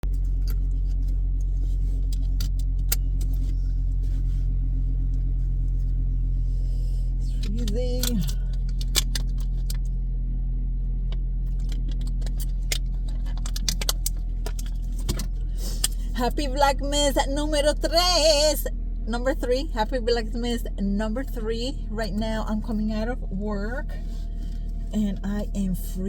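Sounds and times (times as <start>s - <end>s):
car interior rumble: 0.0s - 26.0s.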